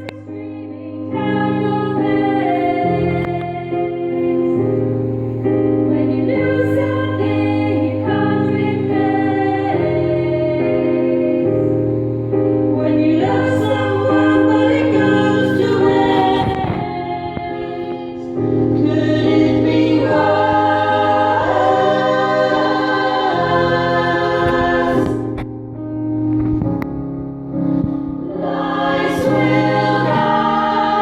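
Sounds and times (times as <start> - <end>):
women's choir singing: 0.0 - 25.4, 28.2 - 31.0.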